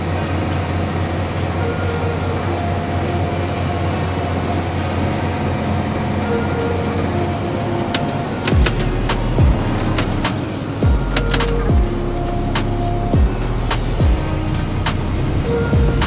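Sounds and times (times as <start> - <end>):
faint steady whines: 0.0 - 16.0
tractor engine hum: 0.0 - 16.0.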